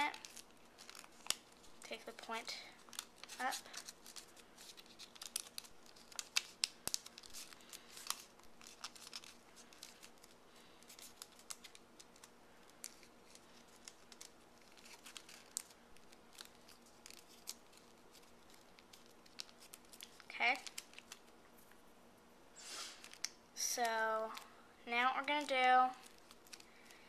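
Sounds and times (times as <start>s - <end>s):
paper crinkling: 0.0s - 21.7s, 22.9s - 23.4s, 24.2s - 27.0s.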